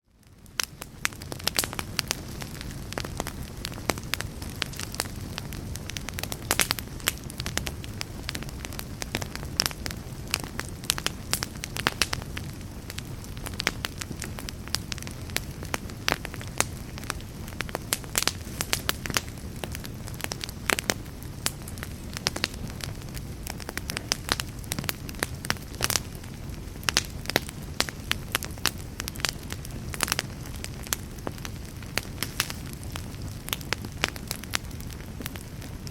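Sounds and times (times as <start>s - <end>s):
wood fire crackling and popping: 0.1s - 35.9s.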